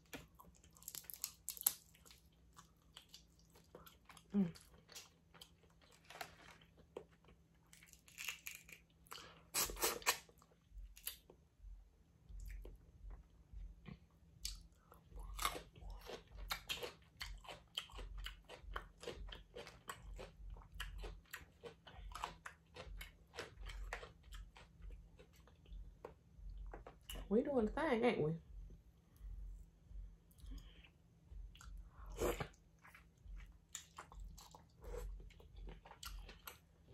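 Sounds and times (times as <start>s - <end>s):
person chewing: 0.0s - 11.4s, 12.4s - 27.2s, 30.3s - 36.9s.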